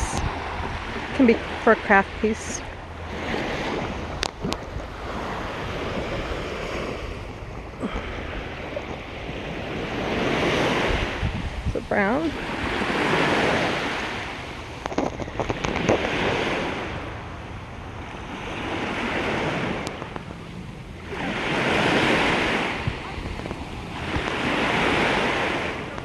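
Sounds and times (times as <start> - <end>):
ocean waves on beach: 0.0 - 26.0
wind buffeting microphone: 0.0 - 26.0.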